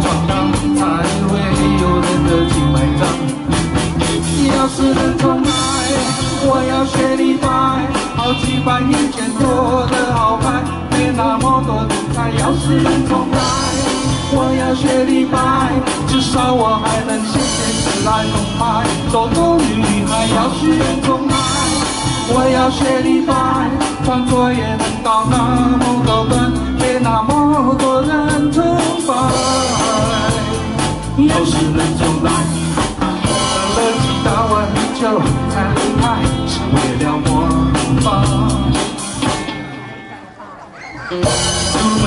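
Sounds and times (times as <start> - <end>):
man singing through loudspeakers: 0.0 - 3.6, 4.2 - 39.4, 41.3 - 42.0
music with steady beat: 0.0 - 40.0, 41.2 - 42.0.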